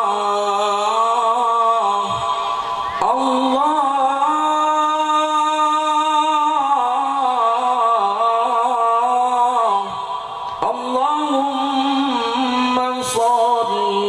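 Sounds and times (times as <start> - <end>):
man chanting into microphone: 0.0 - 14.0.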